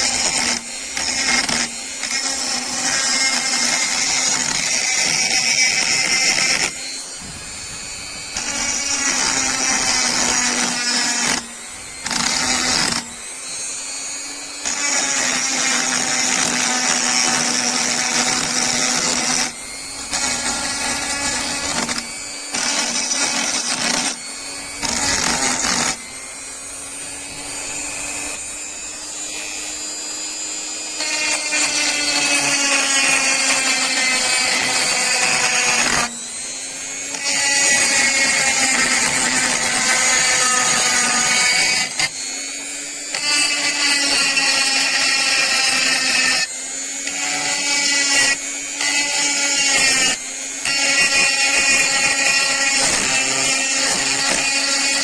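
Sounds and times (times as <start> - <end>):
power tool grinding metal: 0.0 - 55.0.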